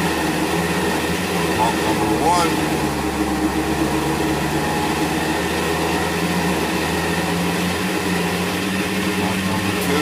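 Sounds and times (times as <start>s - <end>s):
utility vehicle mechanical hum: 0.0s - 10.0s.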